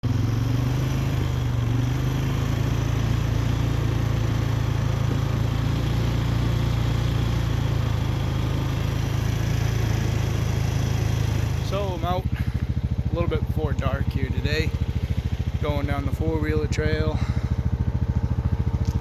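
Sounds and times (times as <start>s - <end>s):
atv engine running steadily: 0.0s - 19.0s.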